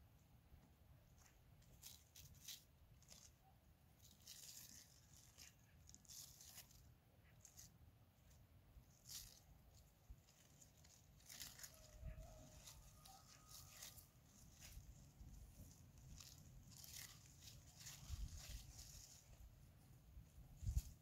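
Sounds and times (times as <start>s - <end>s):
foil crinkling and rustling: 1.2s - 7.7s, 8.9s - 19.6s.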